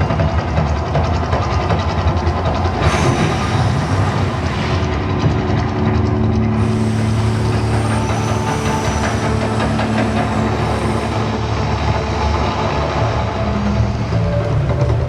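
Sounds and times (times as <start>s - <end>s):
eruption rumble and hiss: 0.0s - 15.0s
steady low drone: 0.0s - 15.0s.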